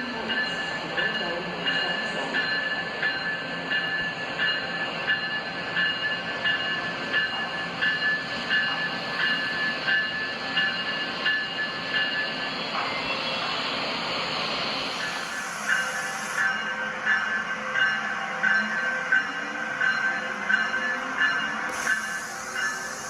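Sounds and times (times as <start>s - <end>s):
locomotive bell ringing: 0.0s - 13.5s, 14.8s - 23.0s
train idling: 0.0s - 23.0s.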